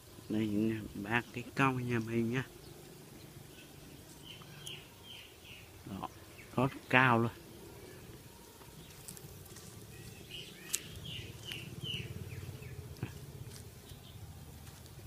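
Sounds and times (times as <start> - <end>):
bird chirping: 0.0 - 14.7
low steady rumble: 0.0 - 15.0.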